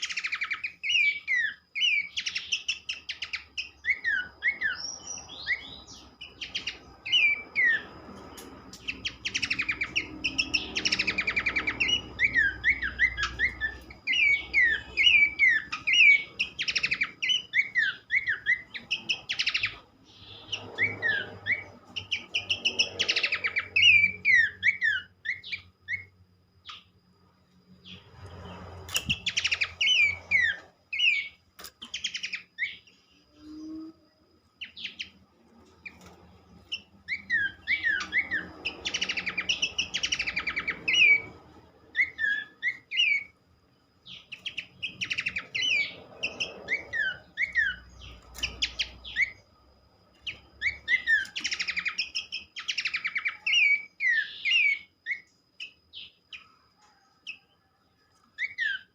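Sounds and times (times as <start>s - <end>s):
bird song whistled notes: 0.0s - 58.9s
faint steady high tone: 0.0s - 58.9s.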